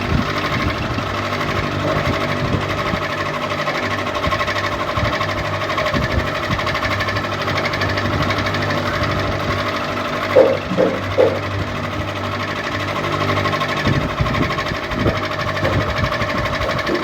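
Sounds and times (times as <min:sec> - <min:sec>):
ceiling fan humming and fluttering: 0:00.0 - 0:17.0.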